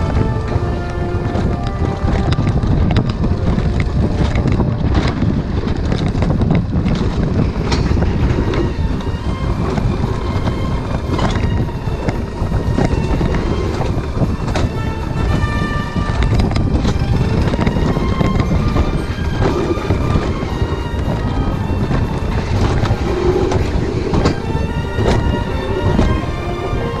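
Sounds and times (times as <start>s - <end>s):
rail clacks: 0.0s - 27.0s
sled wheels rumbling on rails: 0.0s - 27.0s
wind buffeting microphone: 0.0s - 27.0s.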